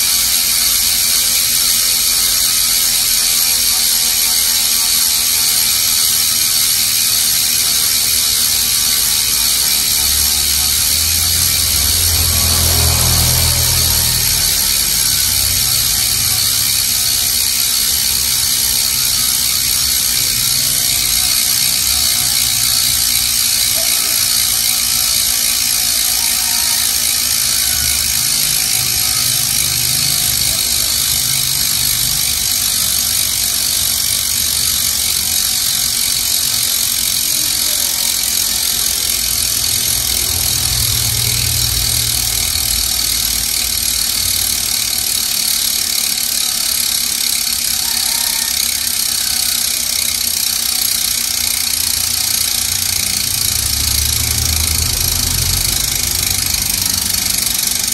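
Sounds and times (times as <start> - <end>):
bicycle hub ratcheting buzz: 0.0 - 57.9.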